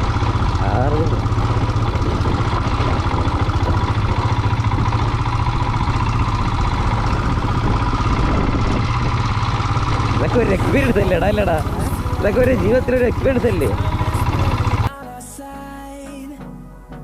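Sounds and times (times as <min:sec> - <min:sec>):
motorcycle engine thumping: 0:00.0 - 0:14.9.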